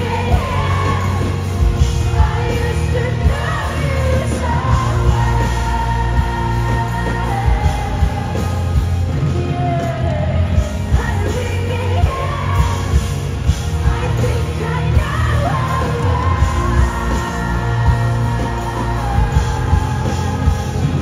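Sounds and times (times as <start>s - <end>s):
live rock band playing: 0.0s - 21.0s
woman singing: 0.0s - 21.0s.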